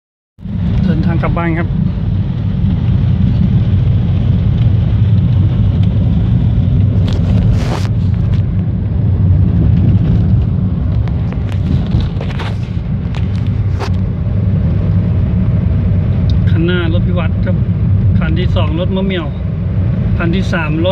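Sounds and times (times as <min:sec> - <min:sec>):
car engine and tyres rumbling: 0:00.4 - 0:20.9.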